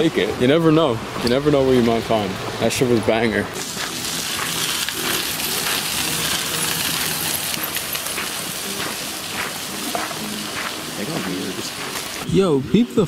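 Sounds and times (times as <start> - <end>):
flowing water rushing: 0.0 - 12.4.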